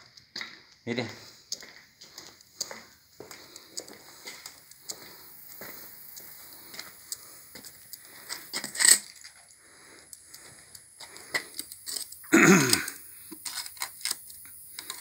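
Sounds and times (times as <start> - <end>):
footsteps on concrete: 0.0 - 13.4.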